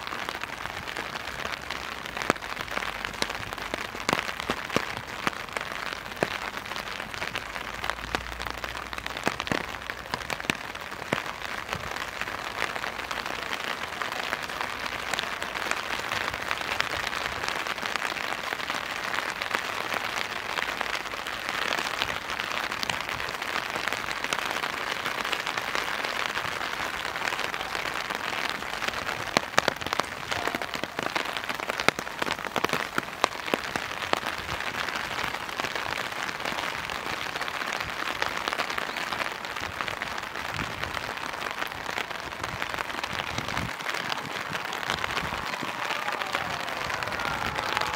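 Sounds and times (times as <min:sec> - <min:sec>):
raindrops ticking on surfaces: 0:00.0 - 0:47.9
steady rain falling: 0:00.0 - 0:47.9.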